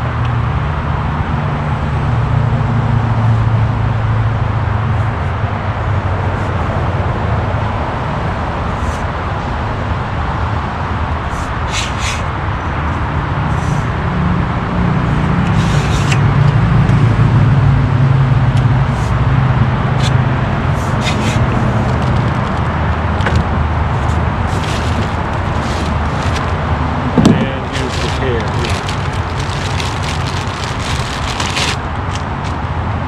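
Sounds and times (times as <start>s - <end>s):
freeway traffic roar: 0.0s - 33.0s.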